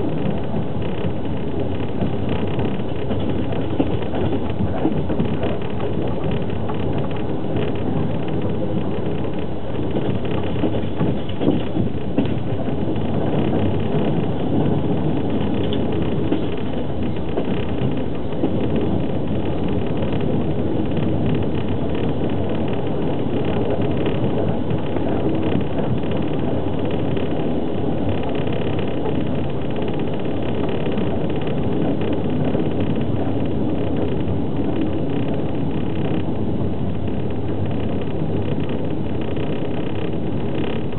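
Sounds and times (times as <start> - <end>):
train wheels rumbling: 0.0 - 40.9.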